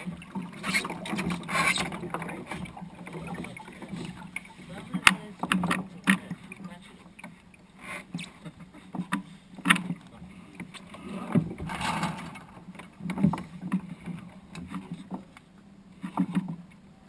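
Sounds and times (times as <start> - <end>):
water slapping against boat hull: 0.0 - 7.4, 8.0 - 16.7.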